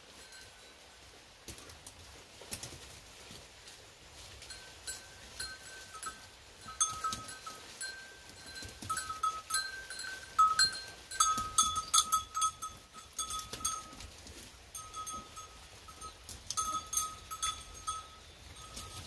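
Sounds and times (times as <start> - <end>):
goat bells clinking: 0.1 - 1.2, 3.6 - 19.0.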